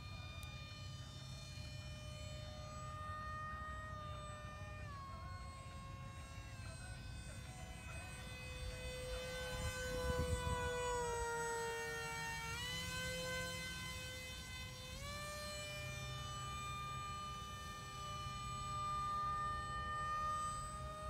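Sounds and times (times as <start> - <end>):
model jet motor whining: 0.0 - 21.0.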